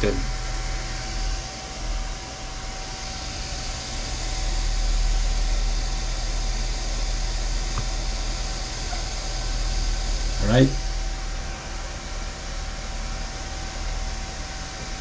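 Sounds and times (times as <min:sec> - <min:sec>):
faint steady whine: 0:00.0 - 0:15.0
fan-like whooshing hum: 0:00.0 - 0:15.0.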